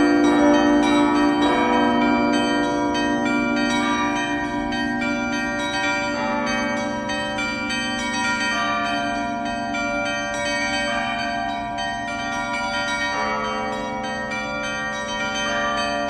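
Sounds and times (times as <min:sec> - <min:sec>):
church bells ringing: 0:00.0 - 0:16.0
low bell hum: 0:00.0 - 0:16.0.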